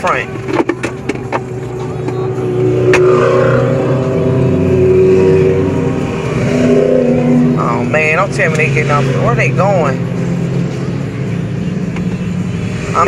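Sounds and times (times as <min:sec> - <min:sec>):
highway traffic engine hum: 0:00.0 - 0:13.0.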